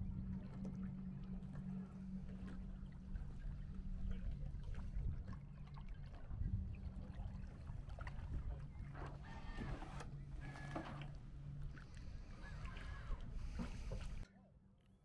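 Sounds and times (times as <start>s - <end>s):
low motor hum: 0.0s - 14.3s
wind and water rumbling: 0.0s - 14.3s.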